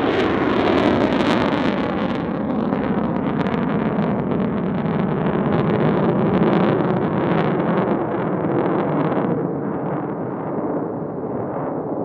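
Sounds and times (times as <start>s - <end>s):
jet flying overhead: 0.0s - 12.0s.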